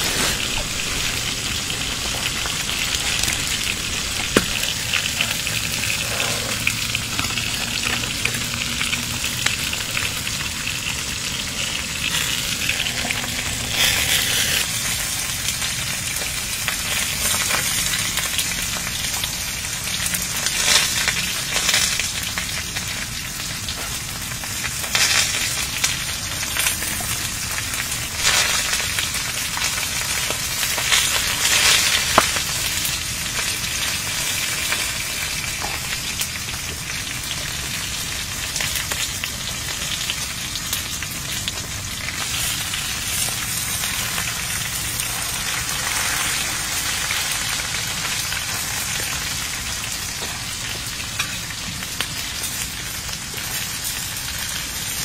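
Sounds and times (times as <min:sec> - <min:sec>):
steady crackling hiss: 0:00.0 - 0:55.0.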